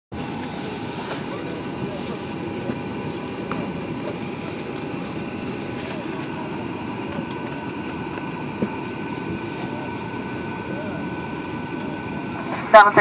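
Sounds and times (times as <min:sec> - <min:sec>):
murmur of passenger chatter: 0:00.1 - 0:13.0
cabin ventilation whine: 0:00.2 - 0:13.0.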